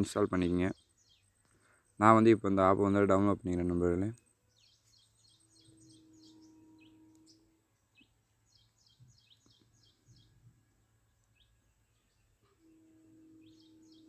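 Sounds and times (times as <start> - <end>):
faint bird chirps: 0.0 - 14.0
faint low hum: 0.0 - 14.0.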